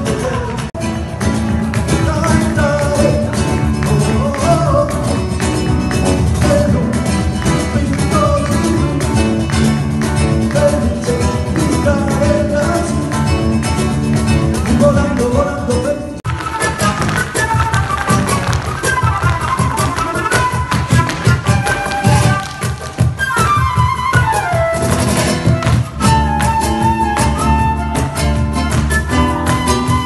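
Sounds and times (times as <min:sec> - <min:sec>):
flamenco guitar music: 0:00.0 - 0:30.0.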